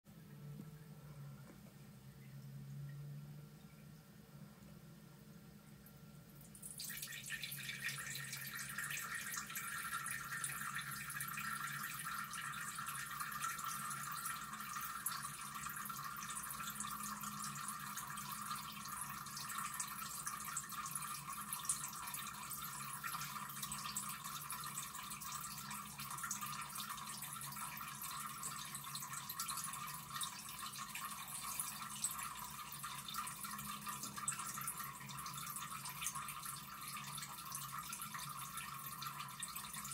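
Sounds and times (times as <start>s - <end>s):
stream trickling into toilet water: 5.5s - 39.9s.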